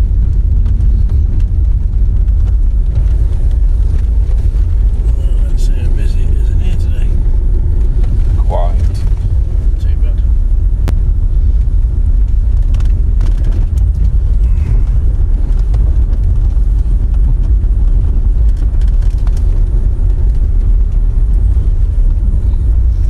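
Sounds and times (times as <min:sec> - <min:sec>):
car rumbling over gravel: 0:00.0 - 0:23.0
wind on microphone: 0:00.0 - 0:23.0.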